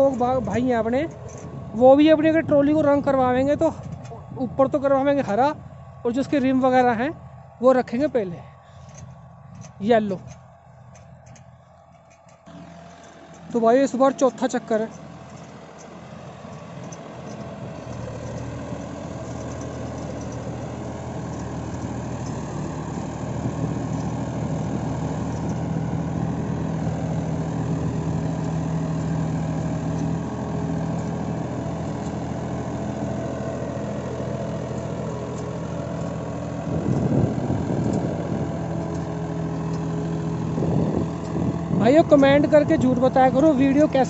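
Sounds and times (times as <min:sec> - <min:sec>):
tractor diesel engine under load: 0:00.0 - 0:44.0.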